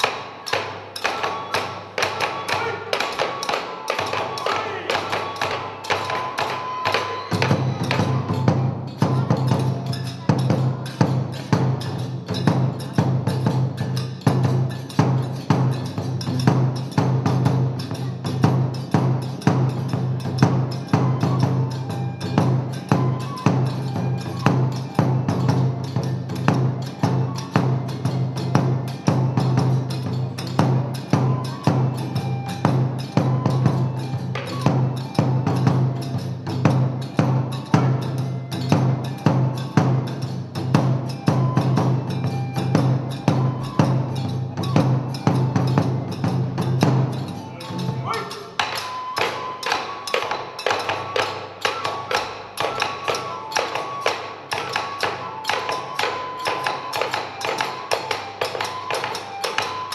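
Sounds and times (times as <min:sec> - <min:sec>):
hand cymbals beating: 0:00.0 - 0:59.9
taiko drum beating: 0:00.0 - 0:59.9.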